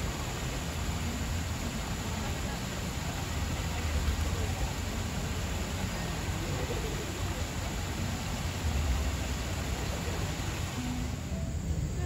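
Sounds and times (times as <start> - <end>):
faint indistinct voices: 0.0 - 12.0
low rumble and hiss: 0.0 - 12.0.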